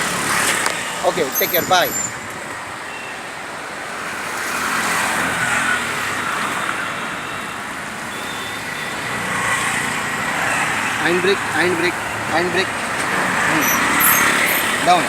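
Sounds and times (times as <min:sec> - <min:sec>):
car engine and tyres passing: 0:00.0 - 0:15.0.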